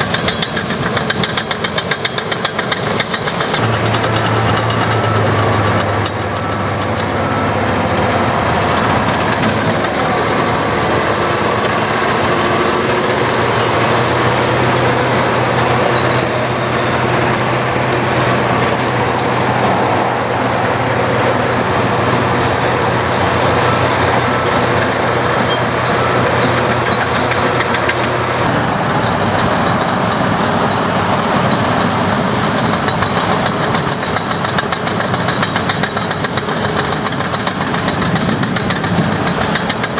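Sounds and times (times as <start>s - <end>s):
diesel engine drone: 0.0s - 39.9s
machinery rattling and clanking: 0.0s - 39.9s.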